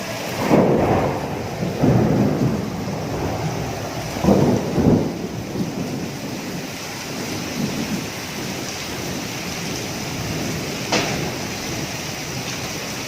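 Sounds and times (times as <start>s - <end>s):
heavy rain pouring: 0.0s - 13.0s
low gusty rumbling: 0.0s - 13.0s.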